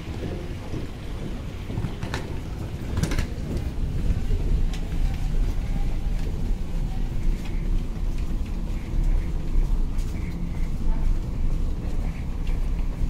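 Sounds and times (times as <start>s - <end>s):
suitcase rolling on hard floor: 0.0s - 13.0s.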